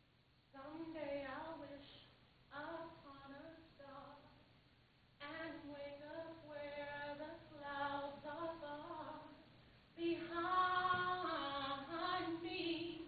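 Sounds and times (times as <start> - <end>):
woman singing unaccompanied: 0.6 - 4.4, 5.2 - 13.0.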